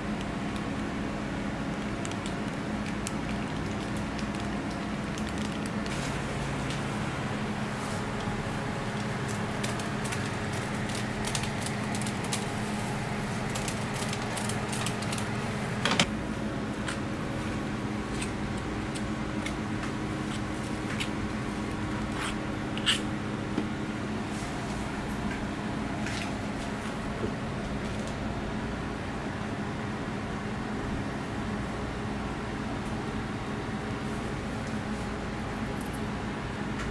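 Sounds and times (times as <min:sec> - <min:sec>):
kitchen appliances humming: 0:00.0 - 0:36.9.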